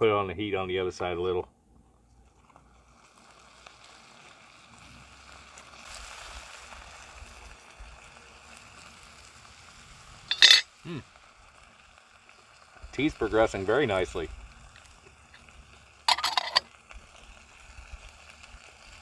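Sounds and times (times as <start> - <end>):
food frying in a pan: 2.1 - 19.0.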